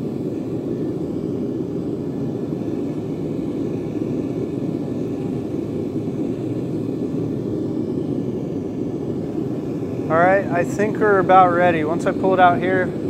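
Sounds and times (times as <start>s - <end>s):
gas burner rushing: 0.0s - 13.0s.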